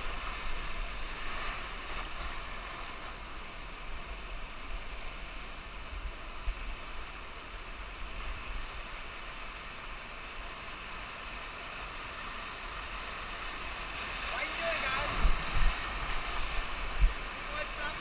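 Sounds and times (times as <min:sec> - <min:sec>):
whitewater river rushing: 0:00.0 - 0:18.0.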